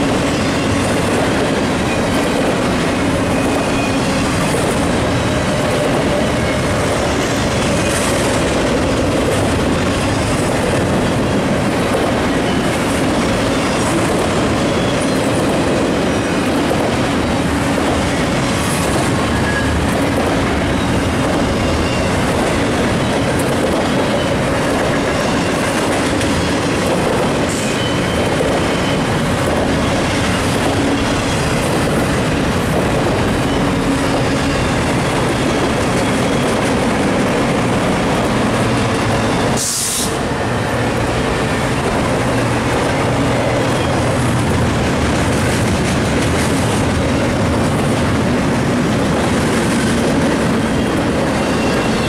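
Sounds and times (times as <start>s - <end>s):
freight train rolling past: 0.0s - 52.0s.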